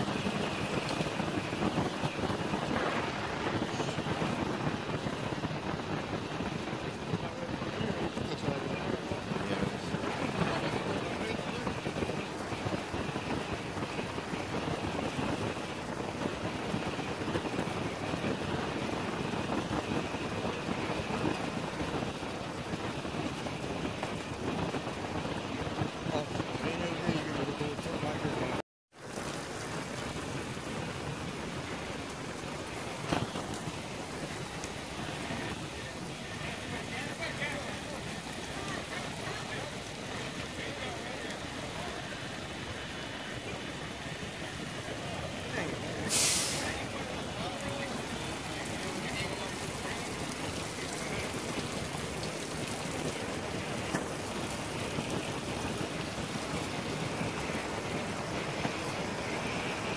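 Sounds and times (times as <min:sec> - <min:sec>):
water splattering on concrete: 0:00.0 - 0:28.3, 0:29.0 - 0:59.9.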